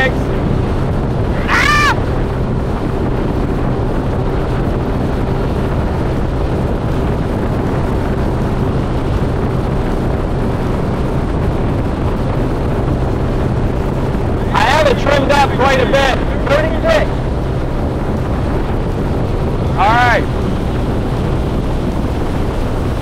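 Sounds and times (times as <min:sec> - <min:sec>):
heavy wind: 0:00.0 - 0:23.0
outboard motor running: 0:00.0 - 0:23.0
water rushing past hull: 0:00.0 - 0:23.0.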